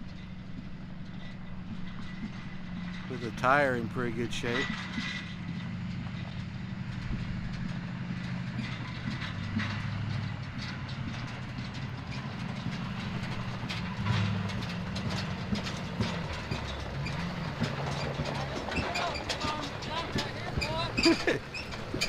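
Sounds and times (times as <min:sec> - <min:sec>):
diesel engine running: 0:00.0 - 0:22.0
tracks clanking and rattling: 0:00.0 - 0:22.0.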